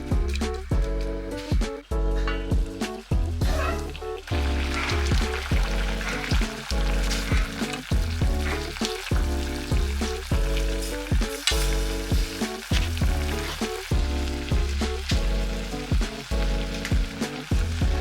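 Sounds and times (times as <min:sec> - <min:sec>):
rhythmic pitched backing: 0:00.0 - 0:18.0
food sizzling in a pan: 0:03.5 - 0:18.0.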